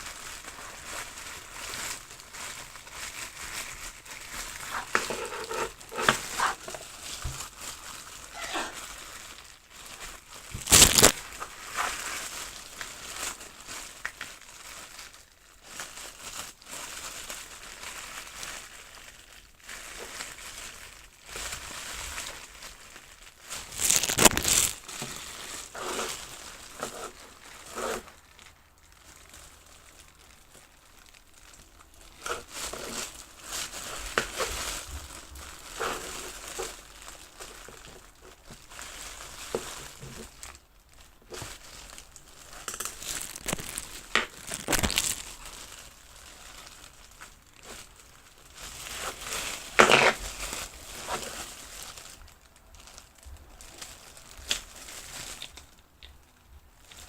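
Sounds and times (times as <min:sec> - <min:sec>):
plastic packaging crinkling: 0:00.0 - 0:57.0.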